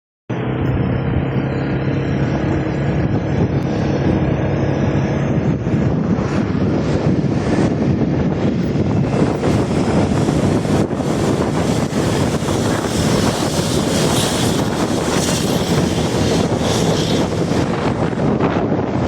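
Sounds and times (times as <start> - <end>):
vehicle moving: 0.3 - 19.0
wind buffeting microphone: 0.3 - 19.0.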